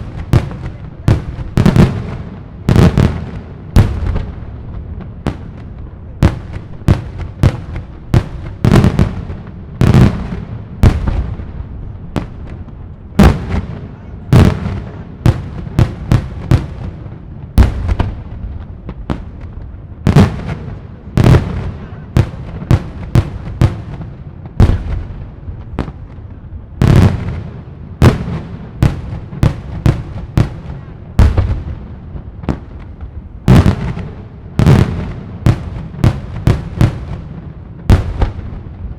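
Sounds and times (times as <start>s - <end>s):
fireworks bursting with bangs: 0.0s - 38.9s.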